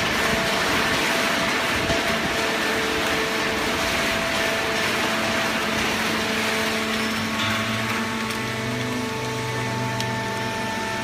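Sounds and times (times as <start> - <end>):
baler machine running: 0.0 - 11.0
deeper hum: 0.0 - 11.0.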